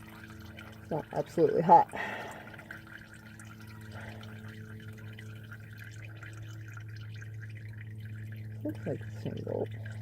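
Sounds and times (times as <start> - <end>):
oil draining into a pan: 0.0 - 10.0
splashing and dripping: 0.0 - 10.0
steady low hum: 0.0 - 10.0.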